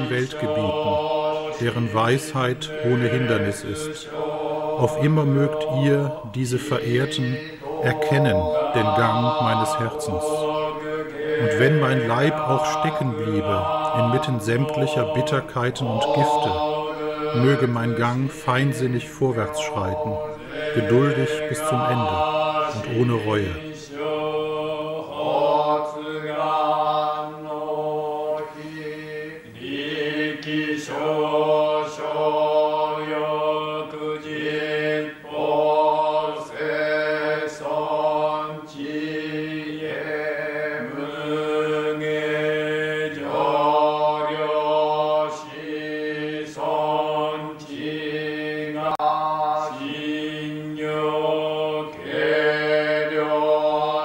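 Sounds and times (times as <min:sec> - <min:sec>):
priests chanting: 0:00.0 - 0:54.0.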